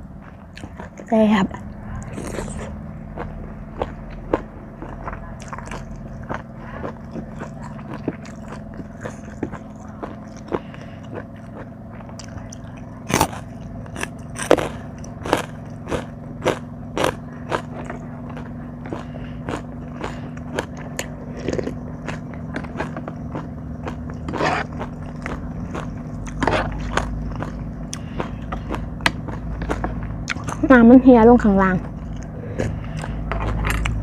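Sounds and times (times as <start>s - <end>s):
crunchy chewing: 0.0s - 1.1s, 1.9s - 30.8s, 31.7s - 34.0s
low hum: 0.0s - 34.0s.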